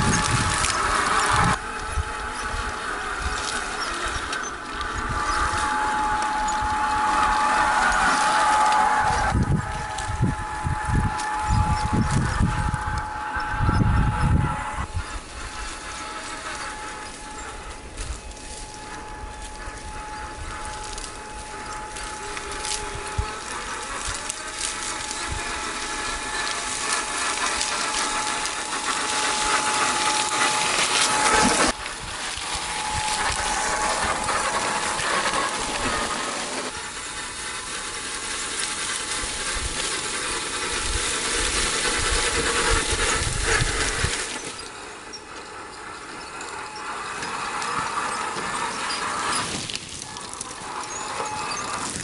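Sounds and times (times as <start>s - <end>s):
toy car motor and gears whirring: 0.0s - 52.0s.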